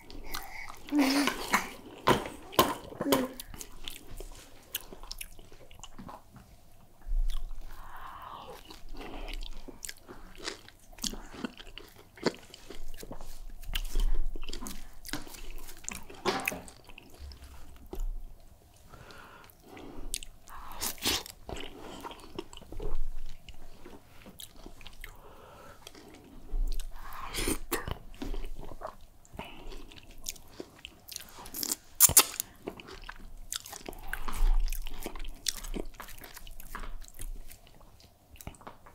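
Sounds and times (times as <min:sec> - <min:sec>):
chewing and wet mouth sounds: 0:00.0 - 0:06.3, 0:07.0 - 0:38.9.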